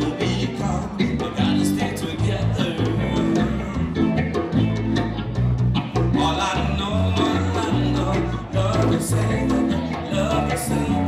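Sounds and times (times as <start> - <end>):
person singing into microphone: 0.0 - 4.2, 6.1 - 11.0
reggae band playing: 0.0 - 11.0.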